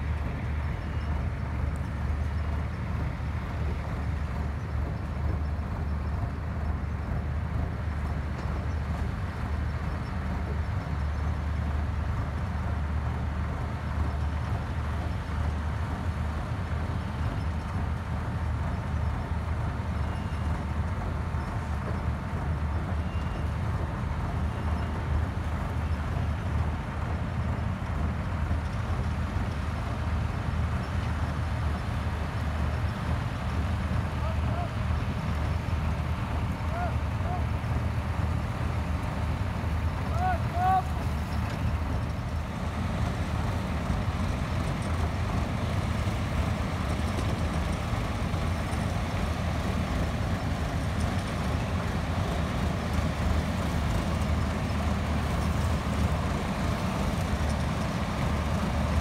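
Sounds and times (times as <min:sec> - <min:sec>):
dense mechanical noise: 0:00.0 - 0:59.0
harvester diesel drone: 0:00.0 - 0:59.0.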